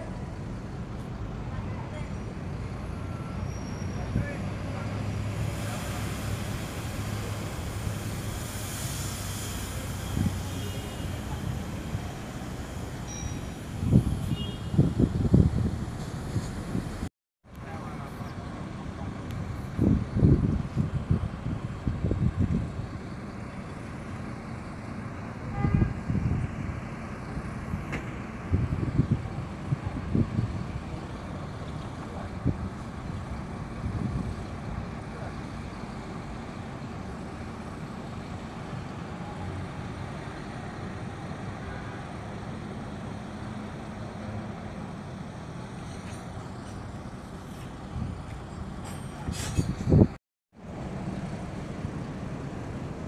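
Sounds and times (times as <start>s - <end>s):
bus engines rumbling: 0.0s - 53.0s.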